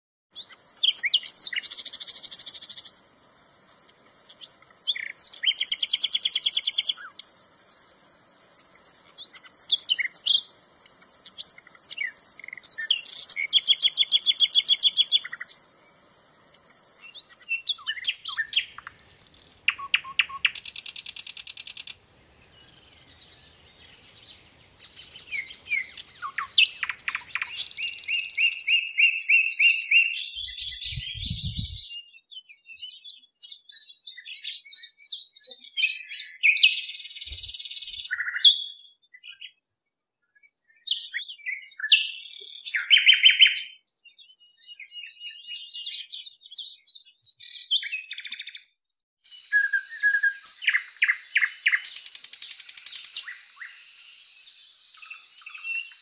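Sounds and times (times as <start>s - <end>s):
nightingale singing: 0.3s - 39.6s, 40.2s - 56.0s.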